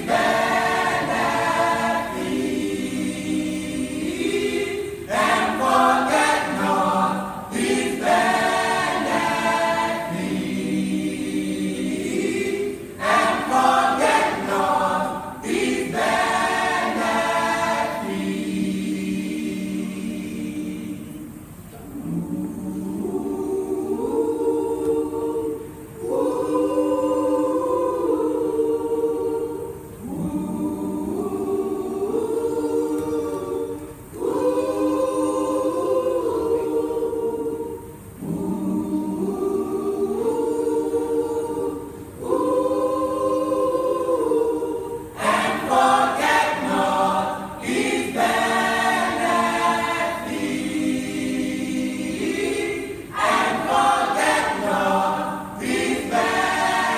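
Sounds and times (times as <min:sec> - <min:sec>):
choir singing in harmony: 0:00.0 - 0:56.9.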